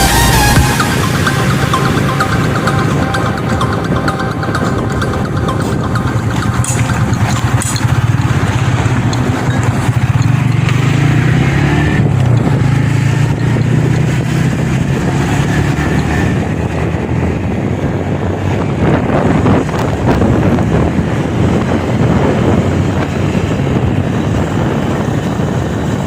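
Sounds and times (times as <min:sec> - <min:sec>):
road and wind noise: 0:00.0 - 0:26.0
vehicle engine running: 0:00.0 - 0:26.0.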